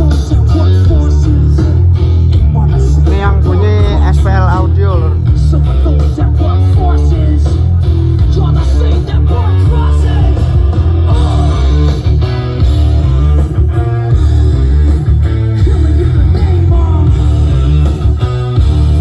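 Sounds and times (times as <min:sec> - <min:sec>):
rock music with guitar and bass: 0:00.0 - 0:19.0.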